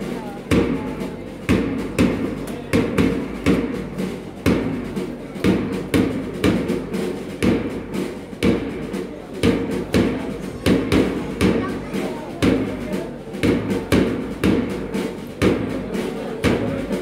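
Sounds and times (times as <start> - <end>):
band music: 0.0 - 17.0
marching bass drum beats: 0.0 - 17.0.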